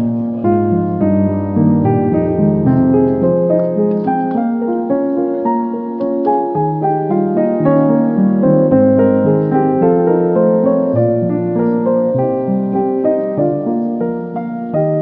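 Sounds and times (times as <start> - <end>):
keyboard melody: 0.0 - 15.0.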